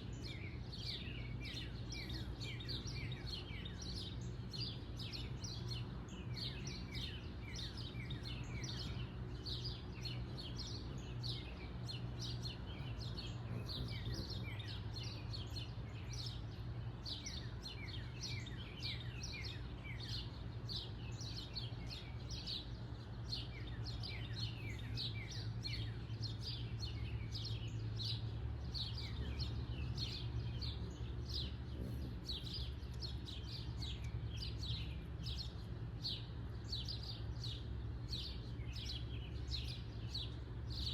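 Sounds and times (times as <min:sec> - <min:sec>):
songbirds chirping: 0:00.0 - 0:40.9
steady low hum: 0:00.0 - 0:40.9.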